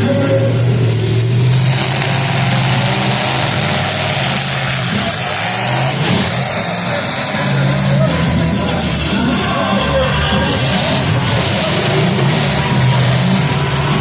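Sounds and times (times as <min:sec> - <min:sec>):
car engines revving: 0:00.0 - 0:14.0
noisy wash: 0:00.0 - 0:14.0.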